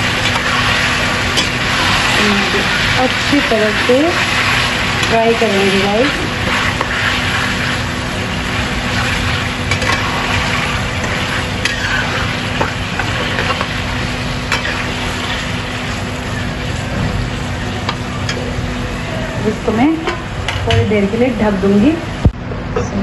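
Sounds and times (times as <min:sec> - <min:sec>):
chicken sizzling in oil: 0:00.0 - 0:19.4.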